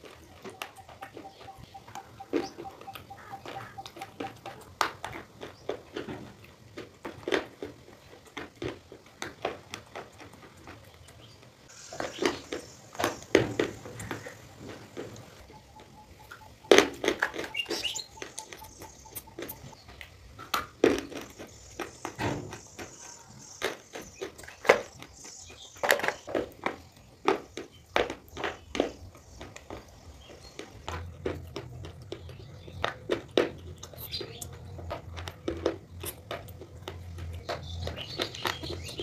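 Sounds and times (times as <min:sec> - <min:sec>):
crunching and chewing stone: 0:00.0 - 0:39.0.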